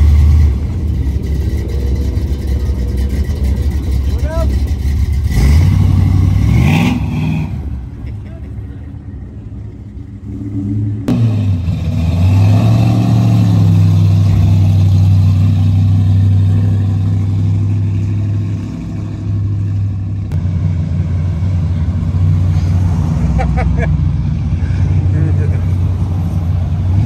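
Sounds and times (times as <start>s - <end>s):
car engines cruising past: 0.0s - 27.0s.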